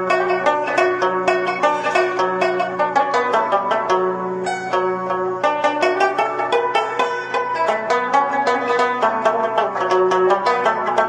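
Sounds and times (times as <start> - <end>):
fast plucked-string tune: 0.0 - 11.0.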